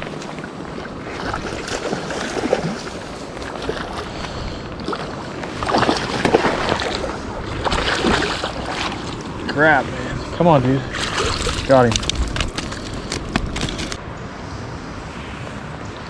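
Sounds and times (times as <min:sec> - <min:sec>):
creek water running: 0:00.0 - 0:14.0
wind on microphone: 0:00.0 - 0:16.0.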